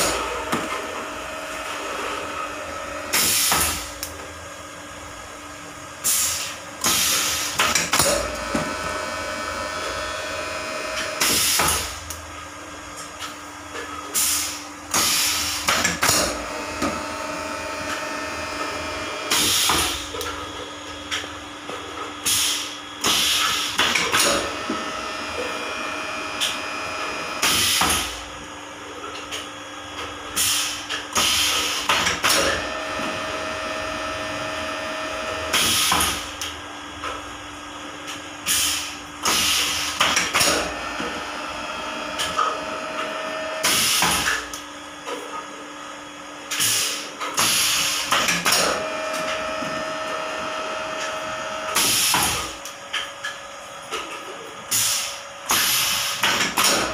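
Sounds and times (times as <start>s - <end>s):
steady motor hum: 0.0s - 56.9s.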